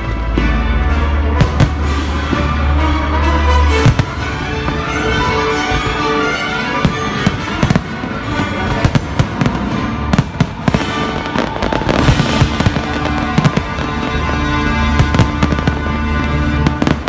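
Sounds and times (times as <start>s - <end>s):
music: 0.0s - 17.0s
fireworks bursting: 1.4s - 2.9s, 3.6s - 17.0s.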